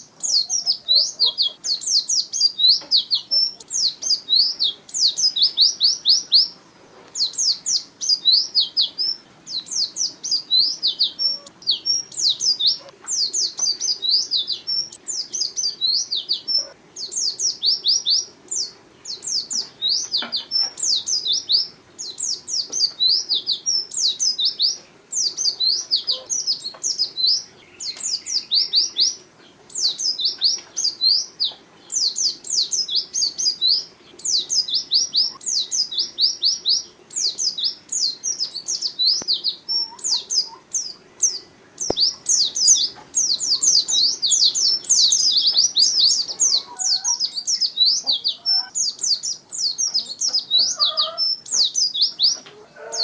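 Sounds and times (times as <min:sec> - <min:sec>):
bird chirping rapidly: 0:00.0 - 0:06.6, 0:07.2 - 0:52.4.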